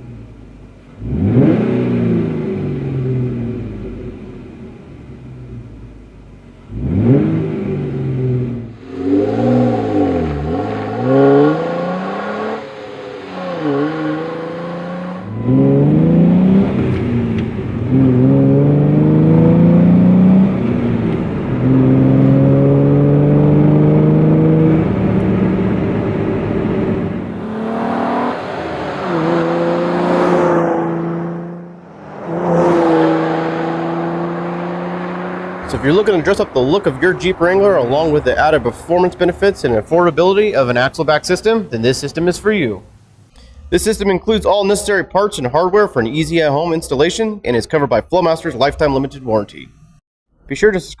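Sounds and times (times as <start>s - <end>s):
car engine revving and accelerating: 0.9s - 5.9s, 6.6s - 44.5s.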